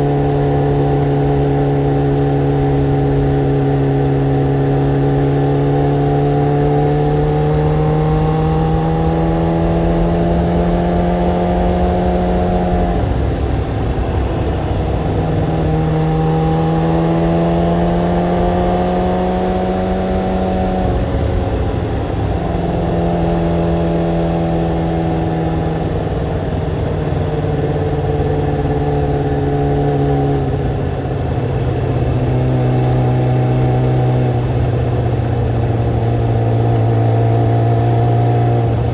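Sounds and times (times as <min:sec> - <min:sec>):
motorcycle engine shifting gears: 0:00.0 - 0:38.9
wind rumble on microphone: 0:00.0 - 0:38.9.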